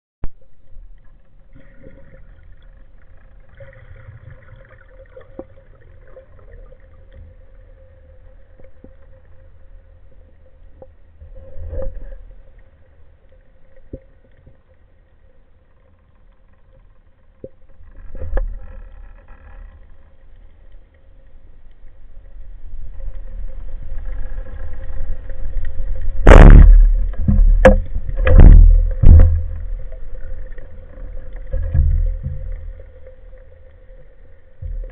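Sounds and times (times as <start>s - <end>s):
faint steady hum: 0.2s - 34.9s
underwater rumble of water: 0.2s - 34.9s.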